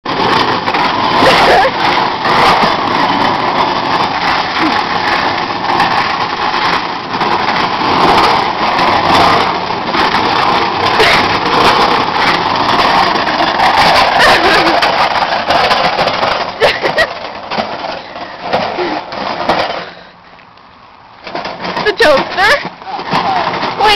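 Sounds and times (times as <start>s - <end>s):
microwave oven scraping on ground: 0.0s - 20.1s, 21.2s - 23.9s.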